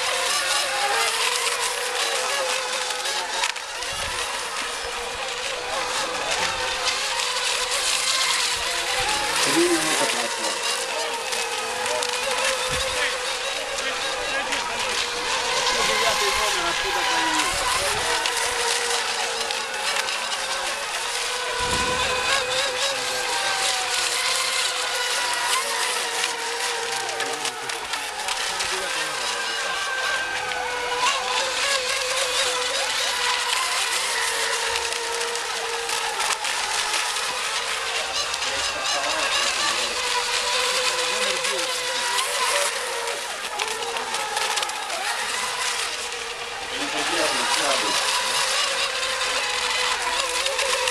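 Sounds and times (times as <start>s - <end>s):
rc boat motors whining: 0.0s - 50.9s.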